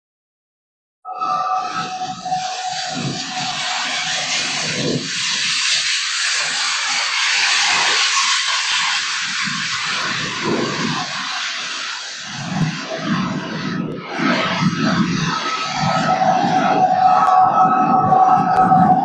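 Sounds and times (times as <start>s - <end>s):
loud rushing roar: 1.1s - 19.0s
uneven low rumble: 1.1s - 19.0s.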